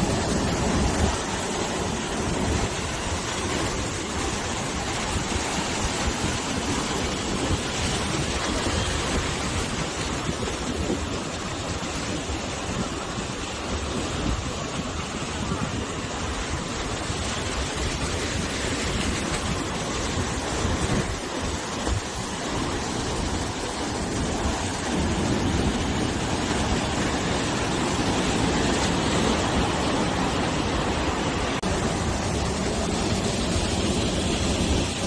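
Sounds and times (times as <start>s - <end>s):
sea waves breaking on shore: 0.0s - 35.0s
wind: 0.0s - 35.0s.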